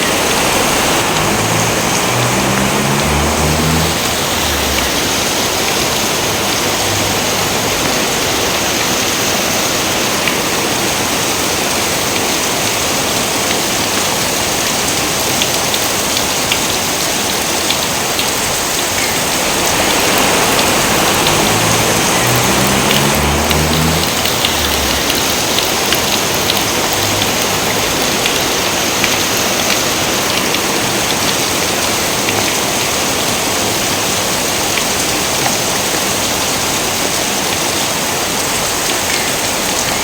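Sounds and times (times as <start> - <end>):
heavy rain falling: 0.0 - 40.0
sharp raindrop ticks: 0.0 - 40.0.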